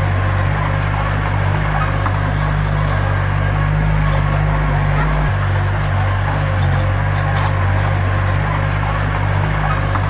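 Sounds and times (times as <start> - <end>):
diesel engine running: 0.0 - 10.0
mechanical noise: 0.0 - 10.0.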